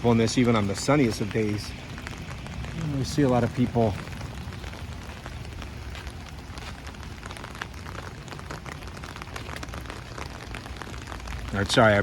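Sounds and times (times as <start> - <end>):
steady rain patter: 0.0 - 12.0.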